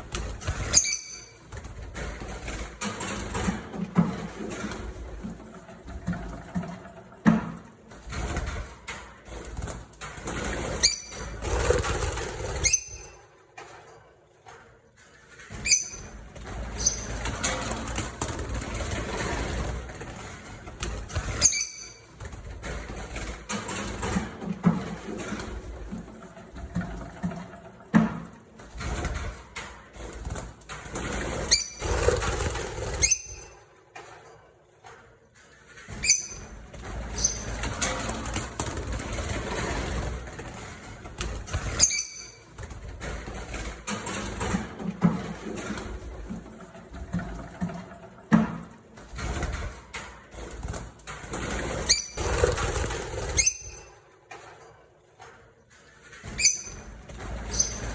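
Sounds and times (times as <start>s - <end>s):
rustling and flapping: 0.0s - 57.9s.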